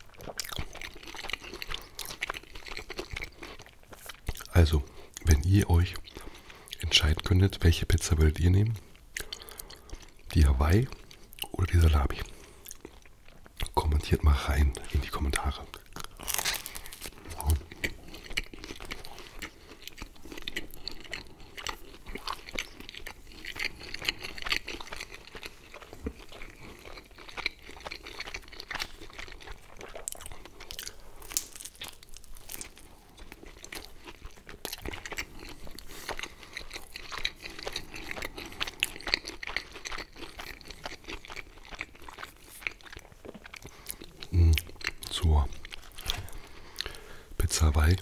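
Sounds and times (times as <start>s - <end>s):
chewing crunchy pizza crust: 0.0s - 48.0s.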